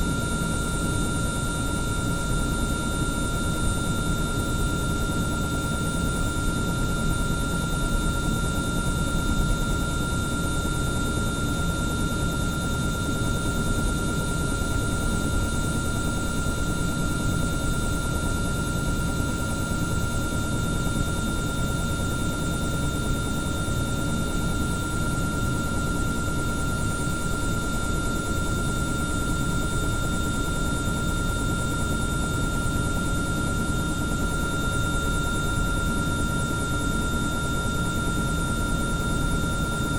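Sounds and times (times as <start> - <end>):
helicopter rotor and engine rumble: 0.0 - 39.9
helicopter turbine whine: 0.0 - 39.9.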